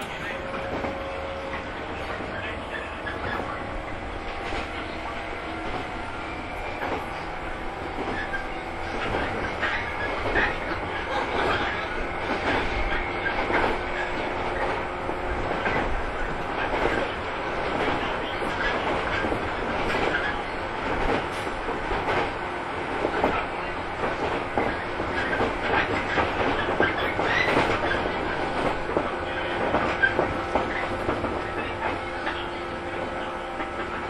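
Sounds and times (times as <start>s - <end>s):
train running gear rumble: 0.0s - 34.0s
train wheels clicking over rail joints: 3.0s - 34.0s.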